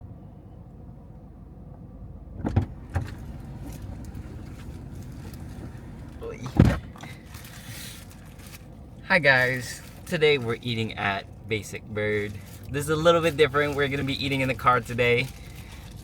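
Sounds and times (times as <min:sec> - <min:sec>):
car cabin hum: 0:00.0 - 0:16.0.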